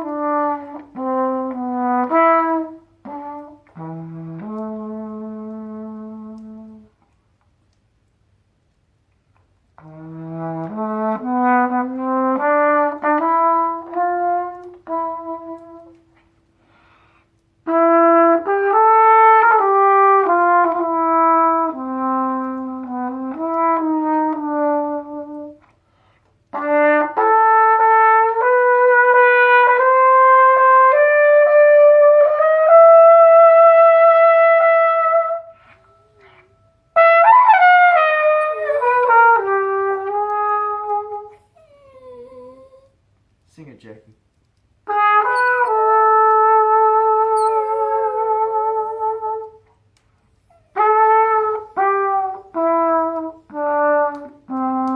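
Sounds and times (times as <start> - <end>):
trumpet playing slow blues: 0.0 - 7.0, 9.7 - 42.9, 44.8 - 54.9.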